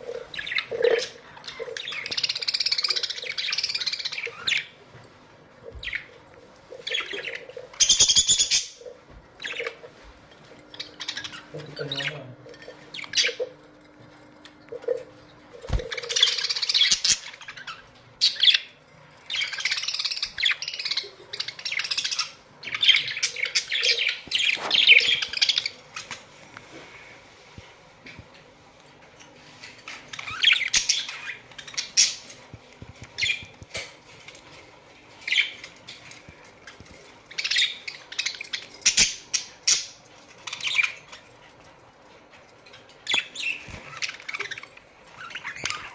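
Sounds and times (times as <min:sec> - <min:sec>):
budgerigars chirping and chattering: 0:00.0 - 0:05.0, 0:05.6 - 0:13.6, 0:14.7 - 0:27.0, 0:29.3 - 0:45.9.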